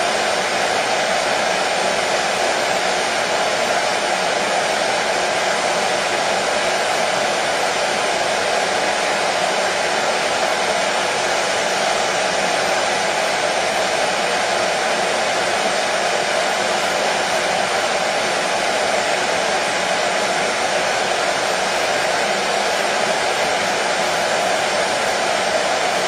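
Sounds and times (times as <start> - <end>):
hair dryer running: 0.0 - 26.0.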